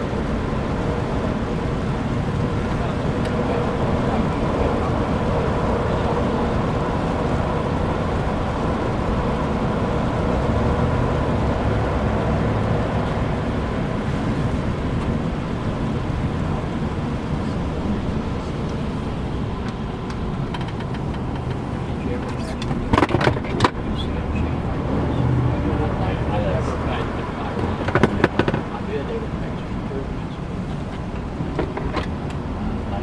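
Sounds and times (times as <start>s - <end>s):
car engine running: 0.0s - 33.0s
tyres on wet pavement: 0.0s - 33.0s.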